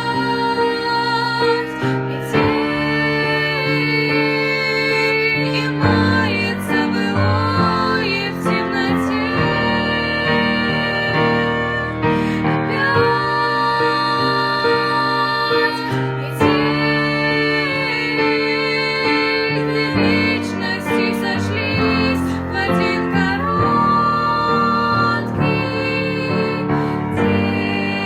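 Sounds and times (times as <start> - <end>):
piano accompaniment: 0.0 - 28.0
woman singing slow song: 0.0 - 28.0.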